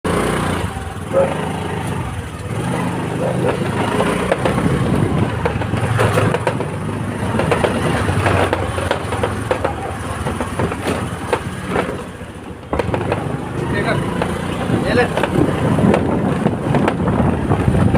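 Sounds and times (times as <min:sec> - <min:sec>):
vehicle engines rumbling: 0:00.0 - 0:17.9
knocks and clatter: 0:00.7 - 0:17.9.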